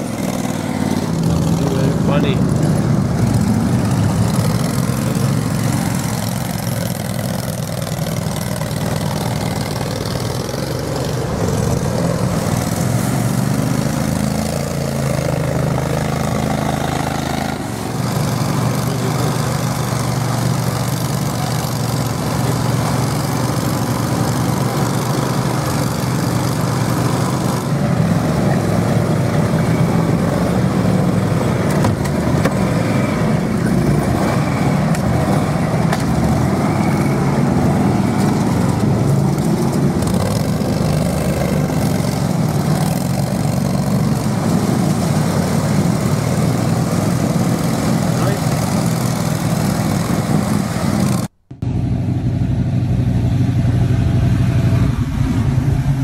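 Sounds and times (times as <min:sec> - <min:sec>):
small engines running: 0:00.0 - 0:56.0.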